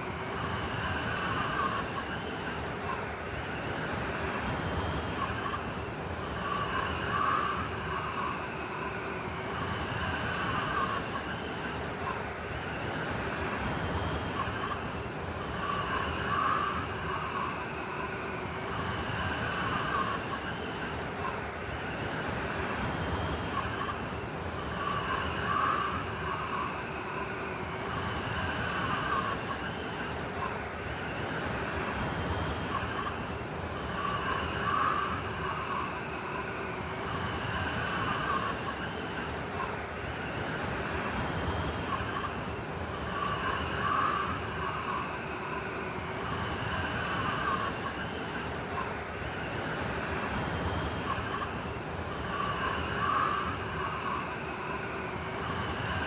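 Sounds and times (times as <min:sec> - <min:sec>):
whistling blizzard wind: 0:00.0 - 0:56.0.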